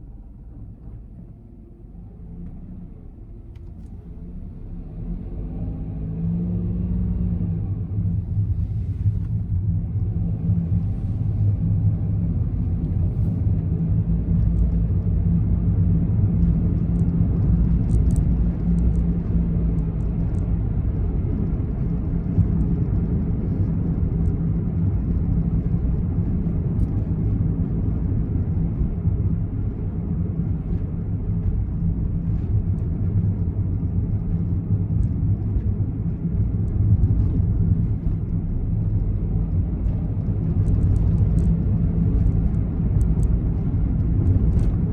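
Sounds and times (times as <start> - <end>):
car engine rumble inside cabin: 0.0 - 44.9.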